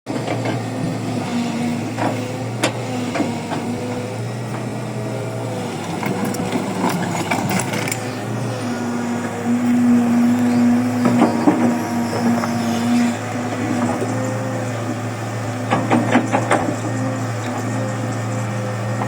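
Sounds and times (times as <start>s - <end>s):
diesel engine of heavy machinery: 0.1s - 19.0s.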